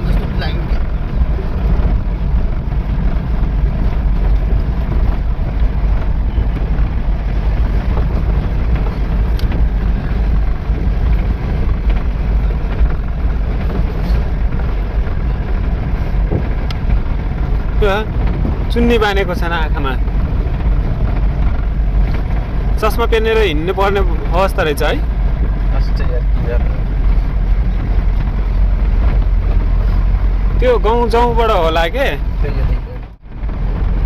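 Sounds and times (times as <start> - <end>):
road noise: 0.0 - 34.0
truck engine rumble: 0.0 - 34.0.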